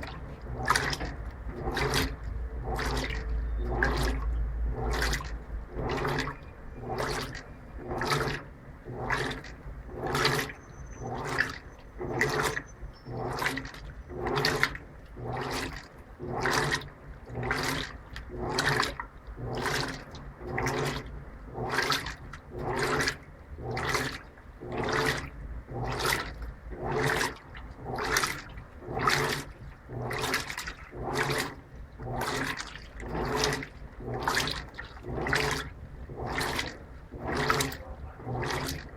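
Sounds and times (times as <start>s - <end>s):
washing machine sloshing: 0.0s - 38.9s.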